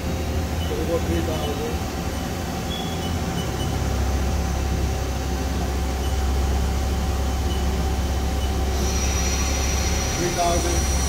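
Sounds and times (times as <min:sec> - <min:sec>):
low machine hum: 0:00.0 - 0:11.0
thin steady whine: 0:00.0 - 0:11.0.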